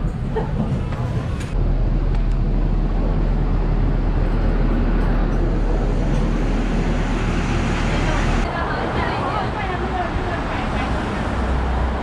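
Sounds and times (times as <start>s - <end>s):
funicular car rumbling: 0.0s - 12.0s.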